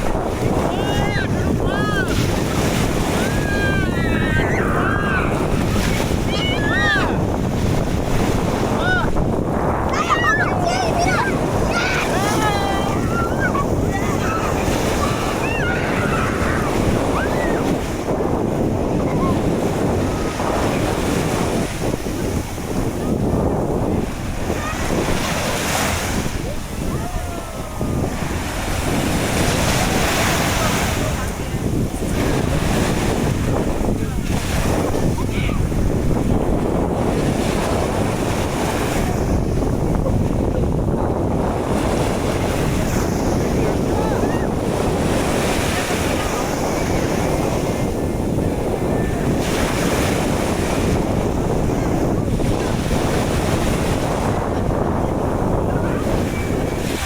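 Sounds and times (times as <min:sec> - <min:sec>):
waves washing onto beach: 0:00.0 - 0:57.0
wind buffeting microphone: 0:00.0 - 0:57.0.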